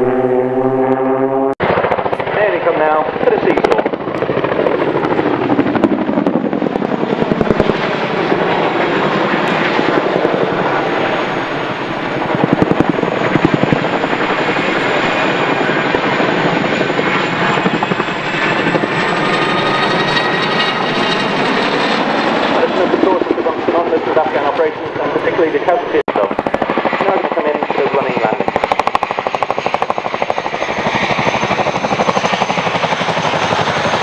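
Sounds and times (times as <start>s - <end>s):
helicopter rotor thudding: 0.0s - 34.0s.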